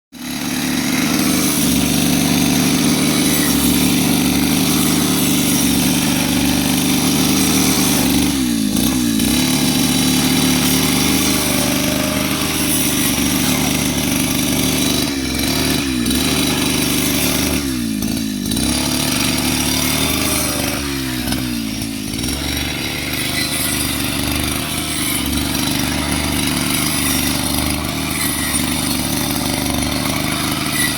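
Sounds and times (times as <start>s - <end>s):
lawn mower engine running: 0.2s - 30.9s.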